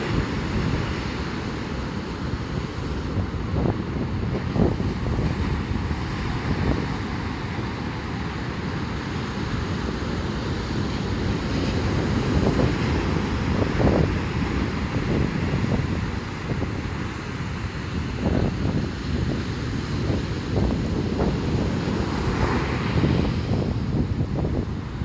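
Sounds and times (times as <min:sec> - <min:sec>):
heavy surf on shore: 0:00.0 - 0:25.0
strong wind buffeting microphone: 0:00.0 - 0:25.0.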